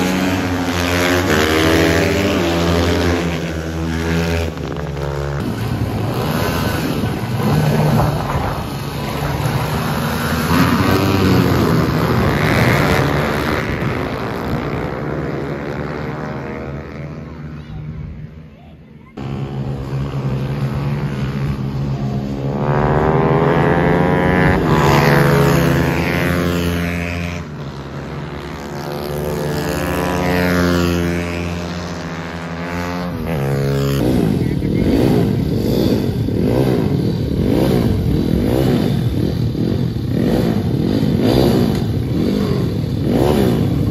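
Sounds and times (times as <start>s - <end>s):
motorcycle passing by: 0.0s - 18.5s, 19.2s - 43.9s
motorcycle engines racing: 0.0s - 43.9s.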